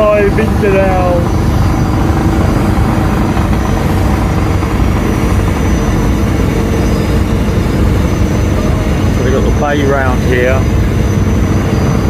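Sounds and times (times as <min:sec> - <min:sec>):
ferry engines rumbling: 0:00.0 - 0:12.0.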